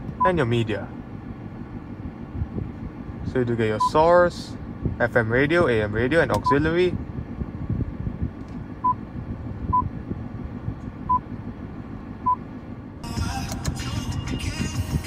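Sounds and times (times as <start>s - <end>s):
low car cabin rumble: 0.0s - 15.0s.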